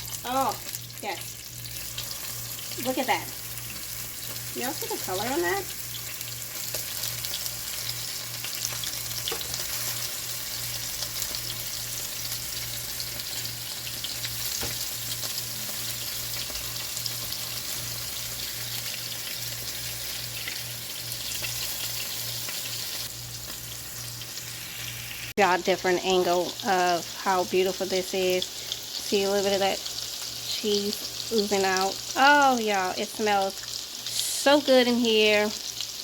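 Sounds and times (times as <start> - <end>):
patties sizzling in a frying pan: 0.0 - 36.0.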